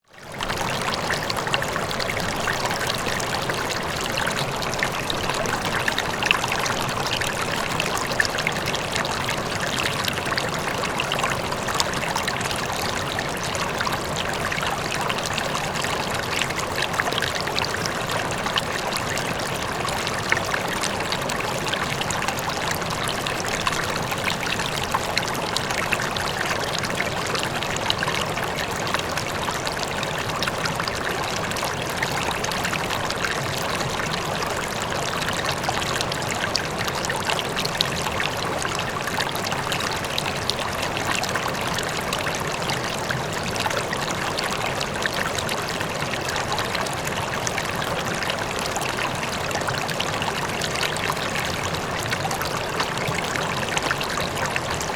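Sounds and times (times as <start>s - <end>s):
faint waterfall: 0.0s - 54.9s.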